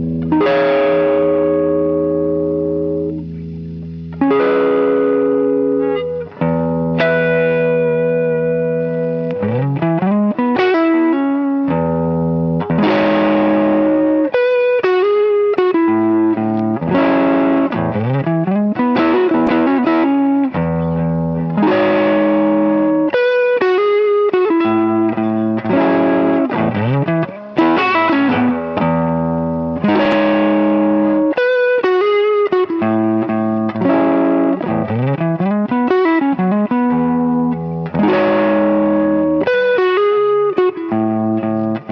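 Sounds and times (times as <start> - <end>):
electric guitar playing blues: 0.0 - 41.9.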